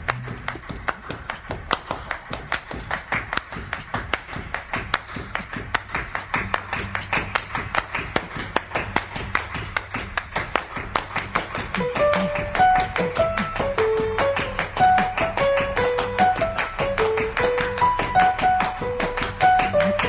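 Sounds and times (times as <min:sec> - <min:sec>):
hand claps and percussive taps: 0:00.0 - 0:20.0.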